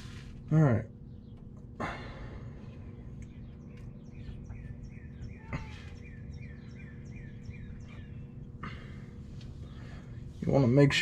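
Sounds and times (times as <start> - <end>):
steady low hum: 0.0 - 11.0
birds chirping: 0.1 - 11.0.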